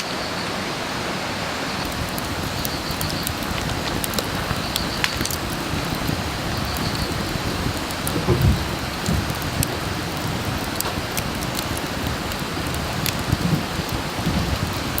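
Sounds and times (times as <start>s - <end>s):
wood fire crackling and popping: 1.8s - 15.0s.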